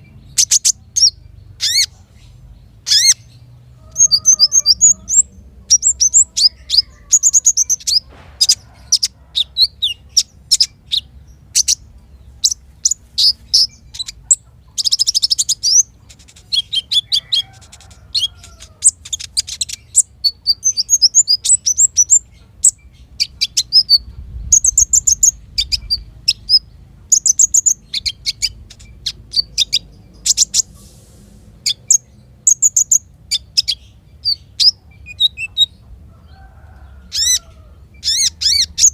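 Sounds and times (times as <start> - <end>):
sunbird singing: 0.0 - 31.0, 31.6 - 38.9.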